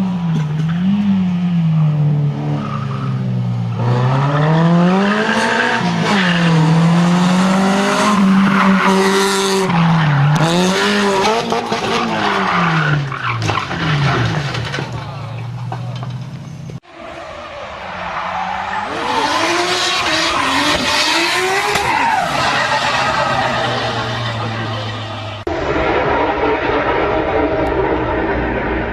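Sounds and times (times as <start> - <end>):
racing car engines revving: 0.0 - 28.9.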